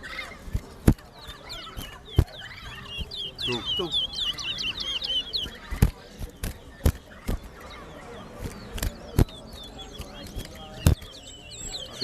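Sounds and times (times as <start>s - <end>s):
finch chirping: 0.0s - 12.0s.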